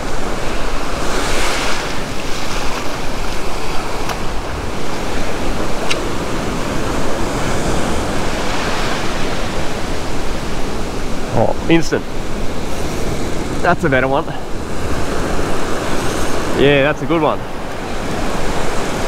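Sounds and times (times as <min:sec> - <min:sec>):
waves breaking on sand: 0:00.0 - 0:19.0.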